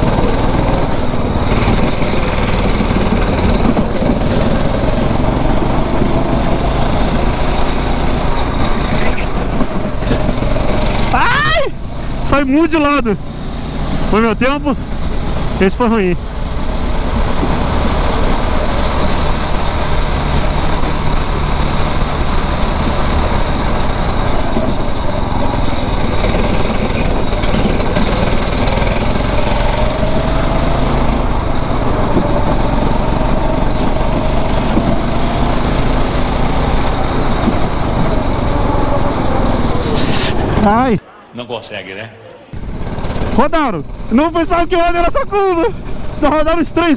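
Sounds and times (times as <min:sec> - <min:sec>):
kart engine running: 0:00.0 - 0:41.1, 0:42.5 - 0:46.9.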